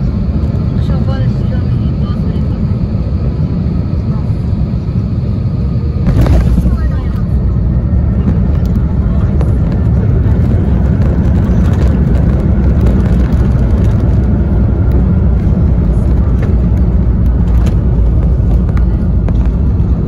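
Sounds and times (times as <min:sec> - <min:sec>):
airliner cabin low rumble: 0:00.0 - 0:20.0.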